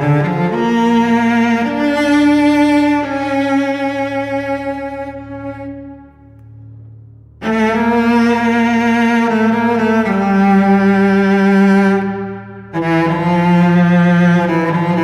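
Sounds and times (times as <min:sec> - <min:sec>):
solo cello bowed notes: 0:00.0 - 0:15.0
steady low drone: 0:00.0 - 0:15.0.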